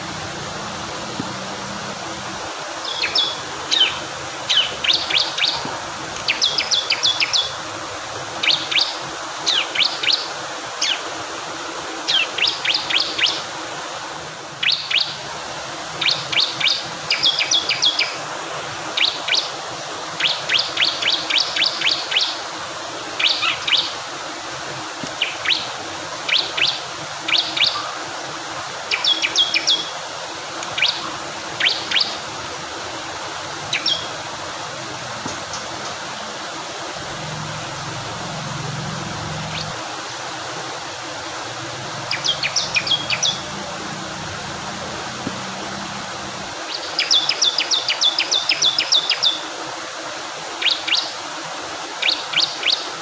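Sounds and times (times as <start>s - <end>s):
fast-flowing water rushing: 0.0s - 53.0s.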